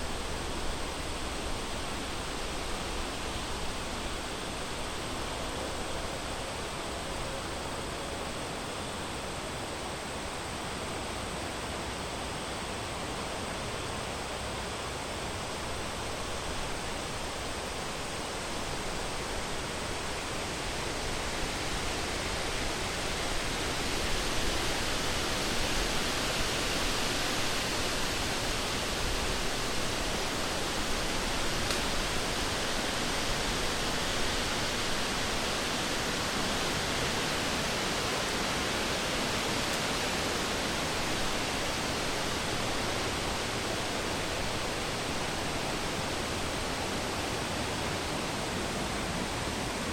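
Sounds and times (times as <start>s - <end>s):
wind blowing through forest: 0.0s - 49.9s.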